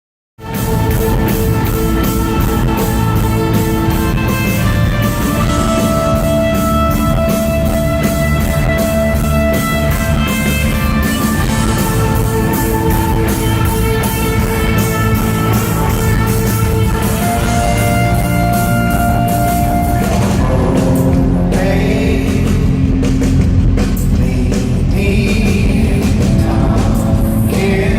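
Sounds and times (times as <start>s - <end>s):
electric guitar: 0.4s - 27.9s
live rock band playing loudly: 0.4s - 27.9s.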